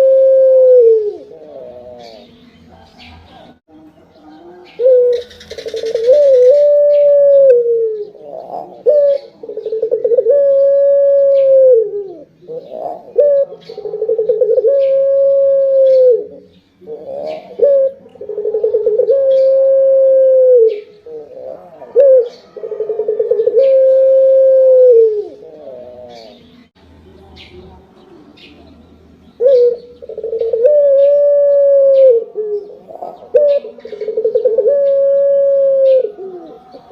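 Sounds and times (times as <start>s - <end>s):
dove cooing: 0.0s - 3.6s, 4.4s - 26.6s, 29.4s - 36.9s.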